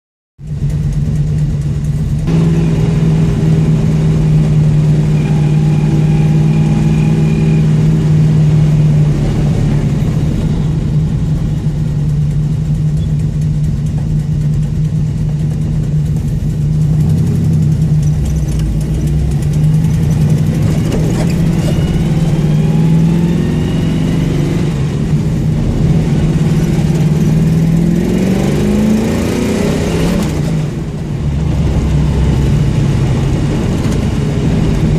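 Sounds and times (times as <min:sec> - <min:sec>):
car engine with exhaust leak: 0:00.4 - 0:34.9.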